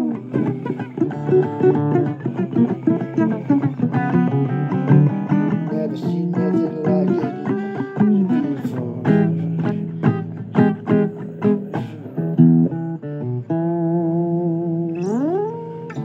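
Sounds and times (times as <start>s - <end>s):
blues guitar playing: 0.0s - 16.0s.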